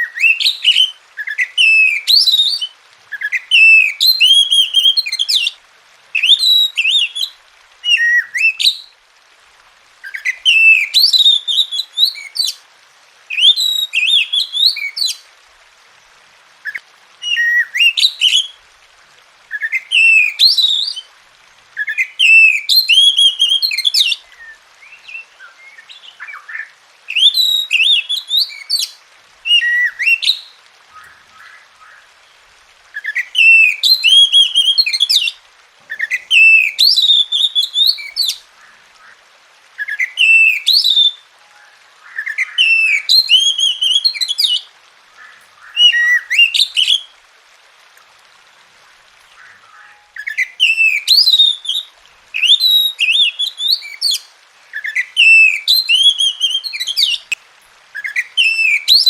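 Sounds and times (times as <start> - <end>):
bird singing whistled phrases: 0.0 - 5.6, 6.2 - 8.9, 10.0 - 12.6, 13.3 - 15.2, 16.7 - 18.6, 19.5 - 21.1, 21.8 - 32.0, 33.0 - 38.4, 39.8 - 44.7, 45.6 - 47.1, 49.4 - 57.4, 58.0 - 59.0.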